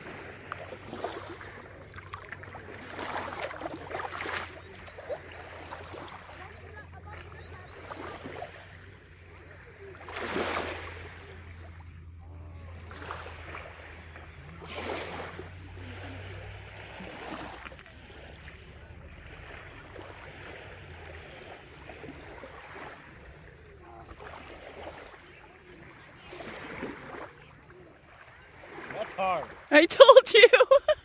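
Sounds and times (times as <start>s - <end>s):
paddle swishes in water: 0.0s - 31.0s
water splashing and lapping: 0.0s - 31.0s.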